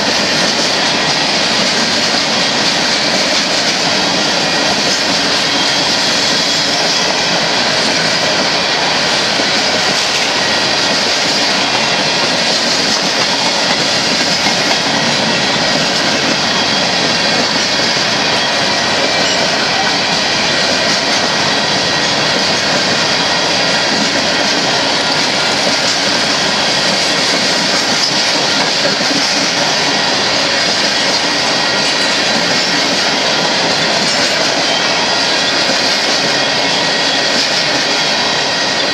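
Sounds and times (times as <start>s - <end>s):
steel wheels rumbling on rail: 0.0s - 38.9s.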